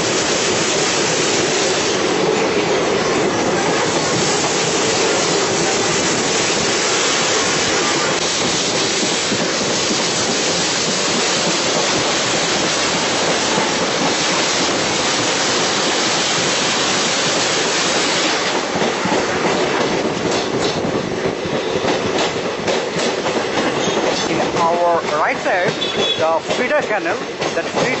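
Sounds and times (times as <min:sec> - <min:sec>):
train rushing noise: 0:00.0 - 0:28.0
wheels clattering over rail joints: 0:00.0 - 0:28.0.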